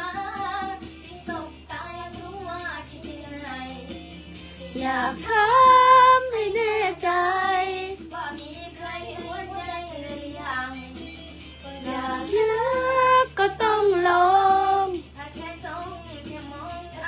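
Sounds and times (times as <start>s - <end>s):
girl singing: 0.0s - 3.9s, 4.7s - 11.0s, 11.7s - 17.0s.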